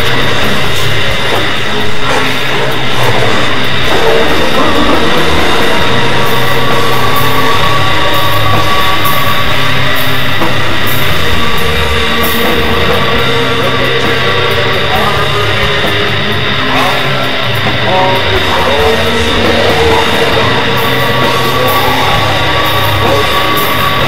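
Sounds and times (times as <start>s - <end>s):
distorted black metal song: 0.0s - 24.0s.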